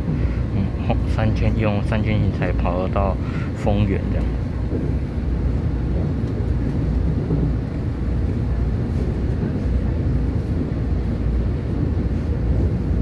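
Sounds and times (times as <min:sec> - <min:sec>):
train rumbling inside passenger car: 0:00.0 - 0:13.0.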